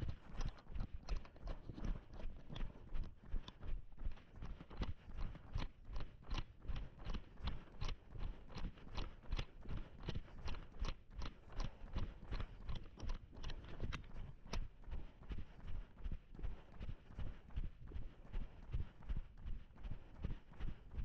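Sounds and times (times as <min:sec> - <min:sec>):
running footsteps on path: 0:00.2 - 0:21.0.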